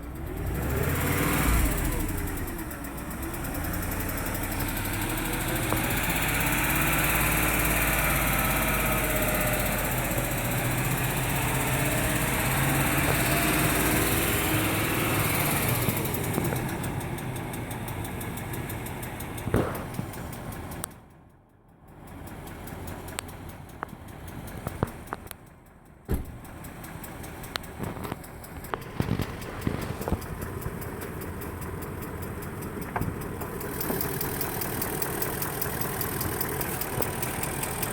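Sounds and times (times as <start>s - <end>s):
car engine idling with ticking: 0.0s - 37.9s.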